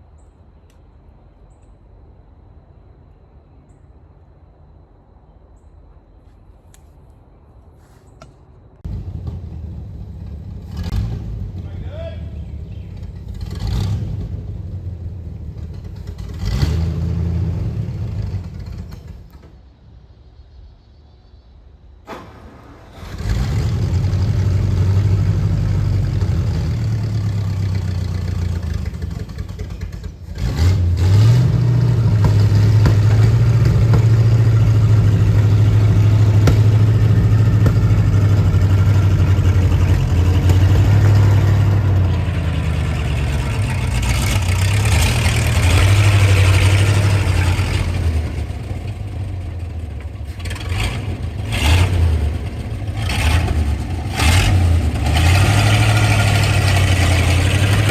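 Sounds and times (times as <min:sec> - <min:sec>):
vehicle engine revving: 0:08.8 - 0:19.4, 0:22.1 - 0:57.9.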